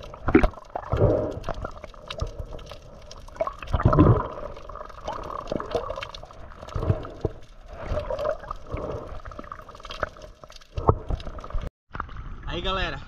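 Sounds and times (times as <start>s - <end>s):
seawater sloshing and gurgling: 0.0s - 11.7s.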